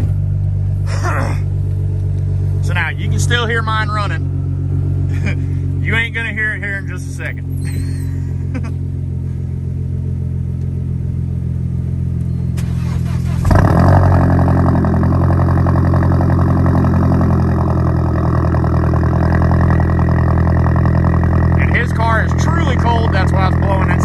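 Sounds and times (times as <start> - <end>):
car engine idling: 0.0 - 24.0
second car engine starting and idling: 0.0 - 24.0.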